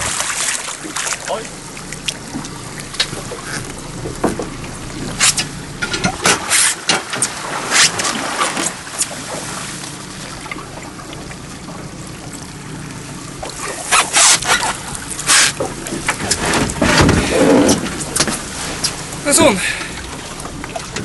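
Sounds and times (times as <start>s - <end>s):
steady low hum: 0.0s - 21.0s
water splashing: 0.0s - 21.0s.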